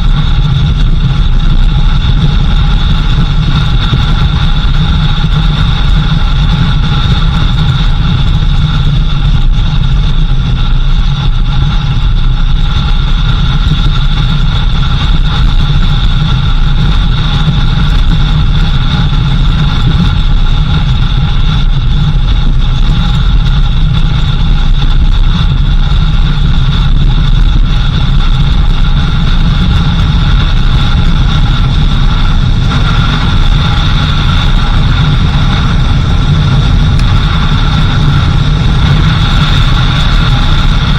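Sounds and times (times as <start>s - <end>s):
drivetrain whine: 0.0s - 40.9s
vehicle engine rumble: 0.0s - 40.9s.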